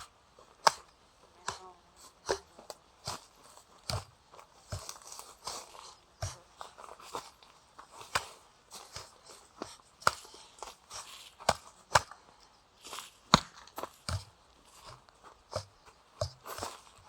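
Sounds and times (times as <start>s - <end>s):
footsteps crunching on forest floor: 0.0s - 17.0s.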